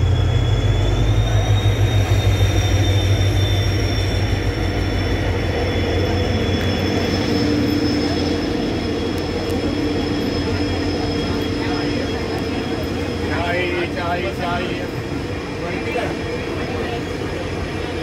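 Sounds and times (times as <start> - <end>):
diesel locomotive engine rumble: 0.0 - 18.0
steady high whine: 0.0 - 18.0
train wheels on rails: 0.0 - 18.0.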